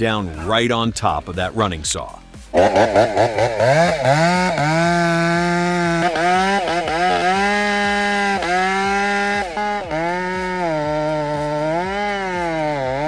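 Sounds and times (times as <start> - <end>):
chainsaw engine revving: 2.5 - 13.0.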